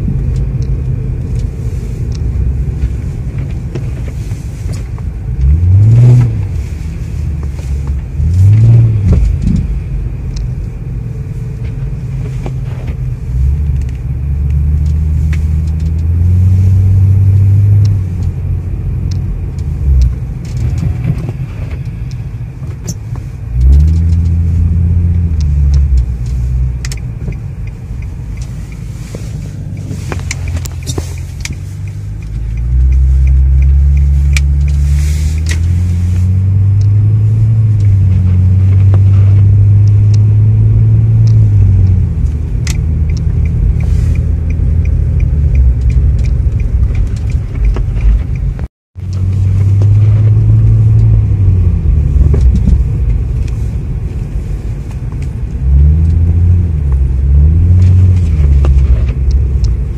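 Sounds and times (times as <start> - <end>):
car engine rumbling and revving: 0.0 - 59.9.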